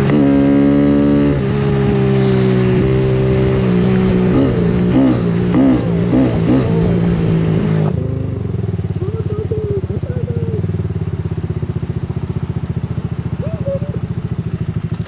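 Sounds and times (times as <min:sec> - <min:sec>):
motorcycle engine idling: 0:01.5 - 0:15.0.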